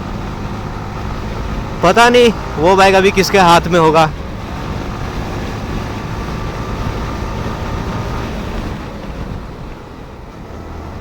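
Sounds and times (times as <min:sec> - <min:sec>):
motorcycle engine running: 0:00.0 - 0:11.0
wind rush on microphone: 0:00.0 - 0:11.0.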